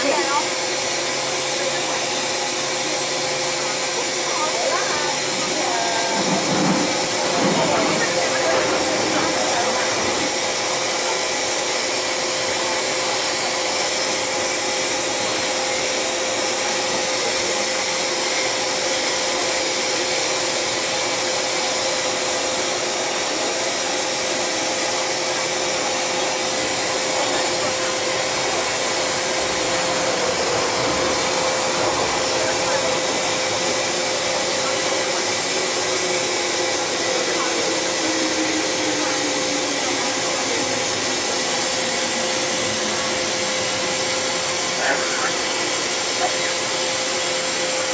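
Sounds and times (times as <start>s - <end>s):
steady whine: 0.0s - 47.9s.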